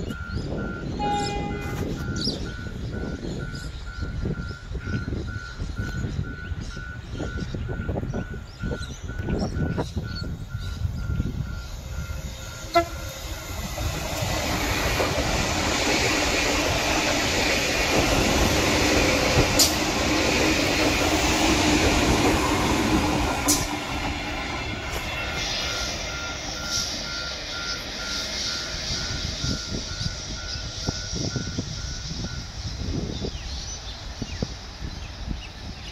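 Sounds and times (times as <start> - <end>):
train passing on tracks: 0.0 - 35.9.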